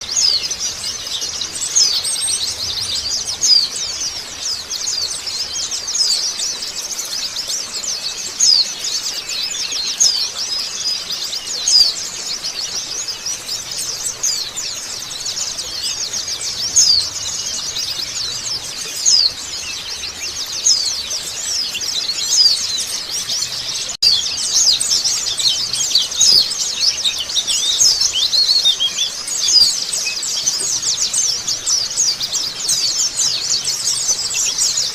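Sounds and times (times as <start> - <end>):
flock of birds chirping: 0.0 - 34.9.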